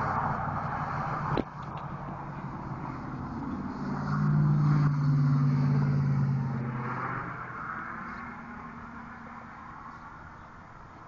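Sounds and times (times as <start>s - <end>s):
car engine hum passing: 0.0s - 11.0s.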